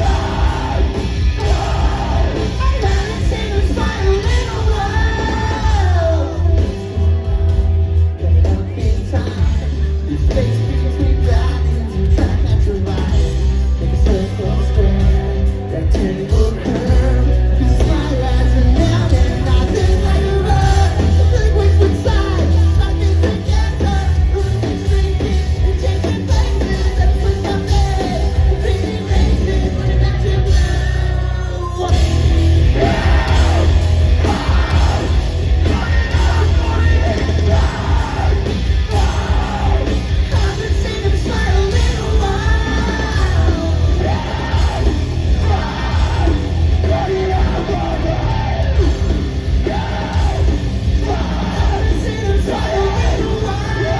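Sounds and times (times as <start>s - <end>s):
lead vocal singing: 0.0s - 53.9s
live rock band playing: 0.0s - 53.9s.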